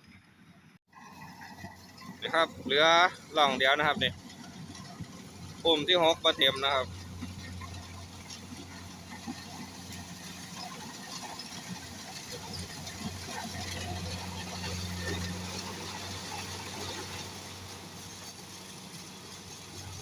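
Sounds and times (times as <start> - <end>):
farm machine engine running: 0.1 - 20.0.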